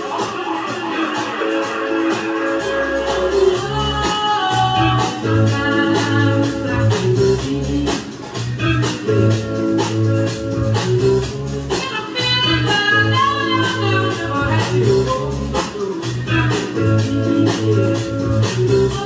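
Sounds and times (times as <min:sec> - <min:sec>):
guitar music with steady beat: 0:00.0 - 0:19.0
deep bass line: 0:01.5 - 0:19.0.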